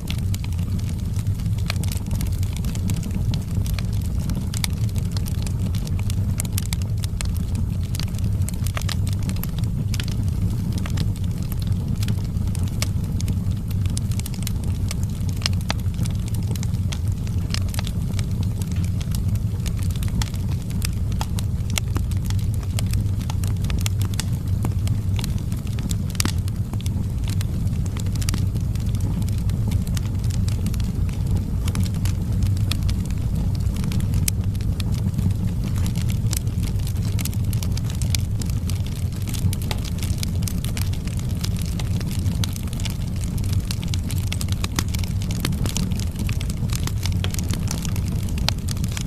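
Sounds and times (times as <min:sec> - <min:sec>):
fire crackling and popping: 0:00.0 - 0:49.0
fire rumbling in fireplace: 0:00.0 - 0:49.0.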